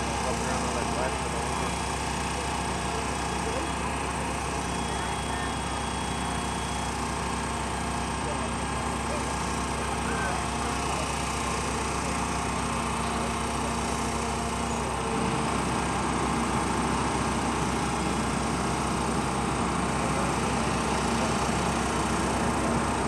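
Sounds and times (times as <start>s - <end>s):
small engine drone: 0.0s - 23.0s.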